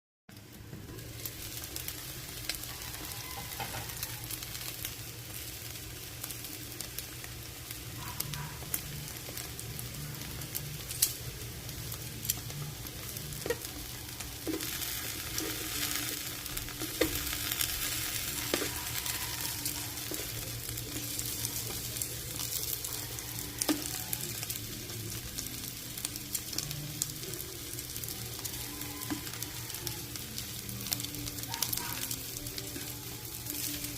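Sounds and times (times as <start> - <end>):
food sizzling in oil: 0.4 - 33.9.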